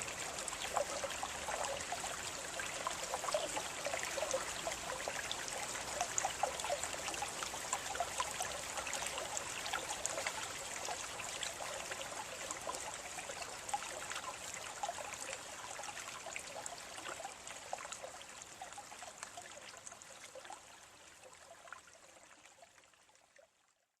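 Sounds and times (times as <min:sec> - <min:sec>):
water trickling and splashing: 0:00.0 - 0:23.8.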